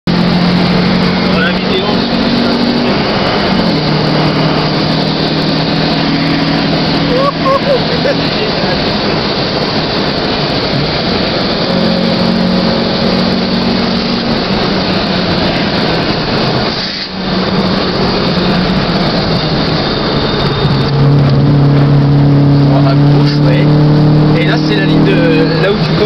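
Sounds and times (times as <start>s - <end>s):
car engine under throttle: 0.0s - 26.0s
road noise: 0.0s - 26.0s
wind noise: 0.1s - 26.0s.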